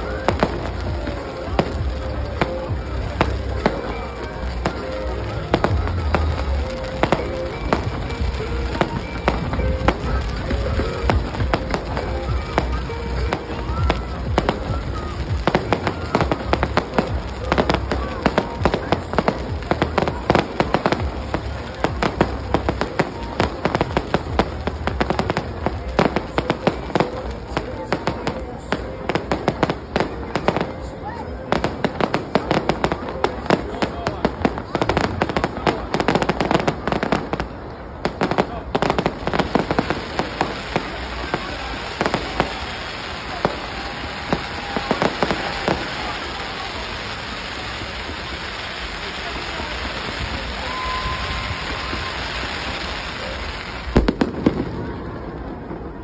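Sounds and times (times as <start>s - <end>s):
continuous low rumble: 0.0s - 56.0s
fireworks bangs and crackles: 0.0s - 56.0s.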